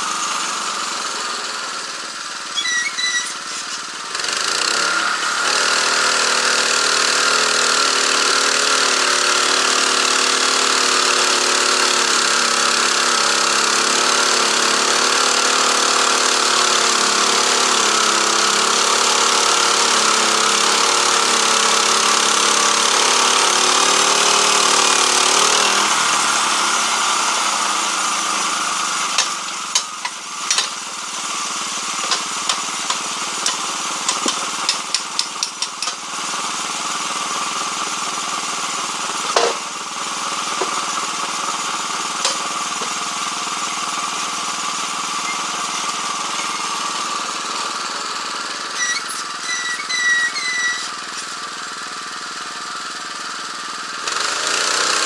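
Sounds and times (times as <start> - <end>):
sawmill petrol engine: 0.0 - 55.0.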